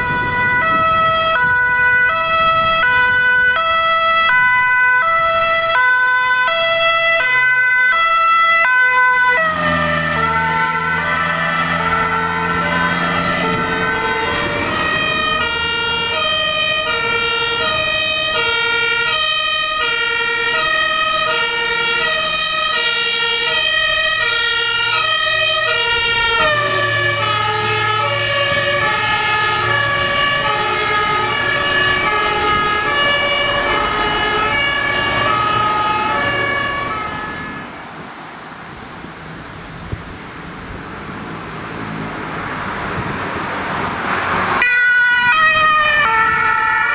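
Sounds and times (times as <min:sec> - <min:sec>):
two-tone fire engine sirens: 0:00.0 - 0:38.1, 0:41.7 - 0:46.9
fire engine rumbling: 0:00.0 - 0:46.9.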